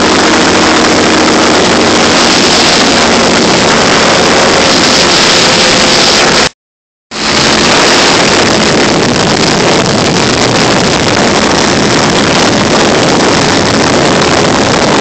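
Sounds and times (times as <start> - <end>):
small aircraft engine and propeller: 0.0 - 6.5, 7.2 - 15.0
wind rushing: 0.0 - 6.5, 7.1 - 15.0.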